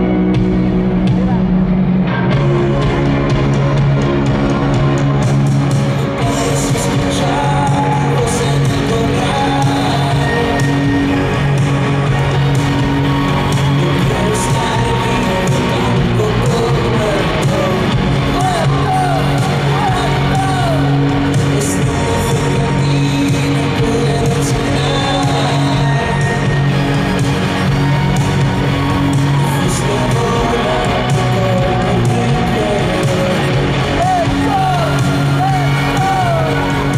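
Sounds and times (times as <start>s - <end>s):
live rock band playing: 0.0s - 36.9s
person singing: 5.7s - 36.9s.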